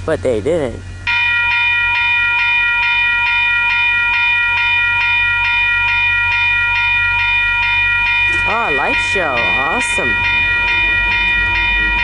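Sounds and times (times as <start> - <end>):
level-crossing bell ringing: 1.1 - 12.0.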